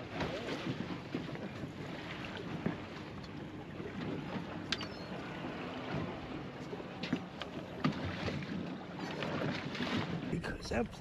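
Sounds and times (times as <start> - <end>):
boat engine hum: 0.0 - 11.0
water noise: 0.0 - 11.0
wind: 0.0 - 11.0.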